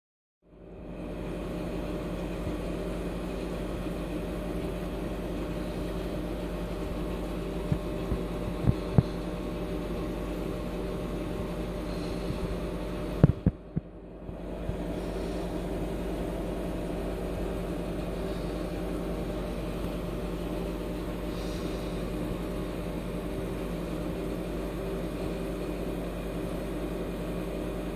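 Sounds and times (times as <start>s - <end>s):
aquarium pump humming: 0.5s - 27.9s.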